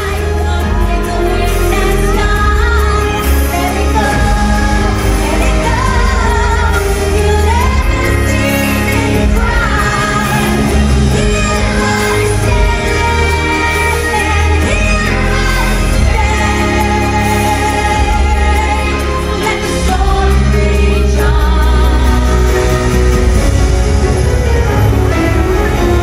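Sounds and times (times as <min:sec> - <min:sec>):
stage-show music with singing: 0:00.0 - 0:26.0.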